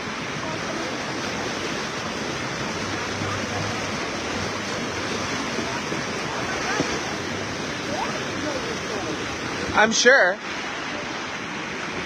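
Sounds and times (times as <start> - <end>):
floodwater rushing down street: 0.0 - 12.0.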